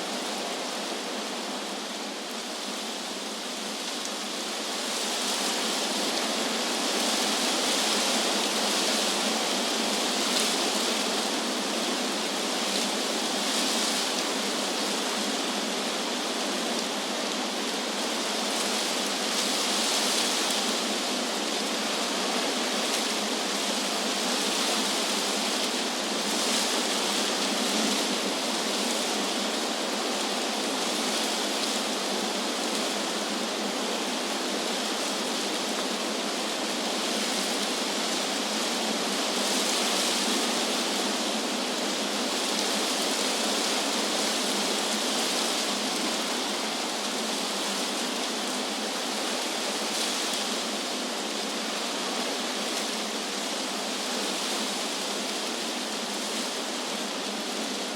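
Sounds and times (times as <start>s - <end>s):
wind through trees: 0.0s - 57.9s.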